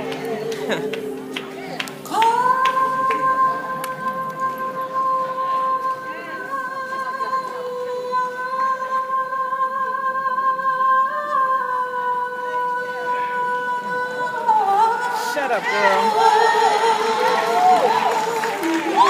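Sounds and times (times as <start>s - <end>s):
quiet musical accompaniment: 0.0s - 19.0s
woman singing a long high note: 0.0s - 19.0s.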